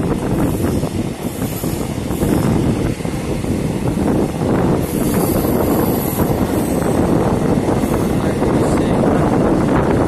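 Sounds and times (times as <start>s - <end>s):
train wheels rumbling on rails: 0.0s - 10.0s
wind rushing: 0.0s - 10.0s.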